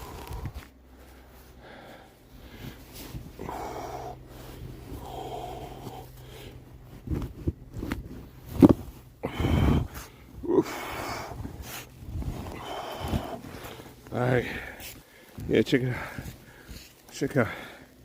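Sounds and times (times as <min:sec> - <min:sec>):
man breathing hard: 0:00.0 - 0:06.9, 0:09.2 - 0:18.0.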